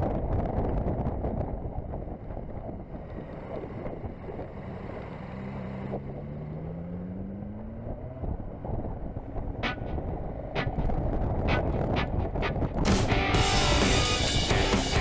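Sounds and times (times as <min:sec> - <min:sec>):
wind rushing over microphone: 0:00.0 - 0:15.0
motorcycle engine: 0:02.4 - 0:15.0.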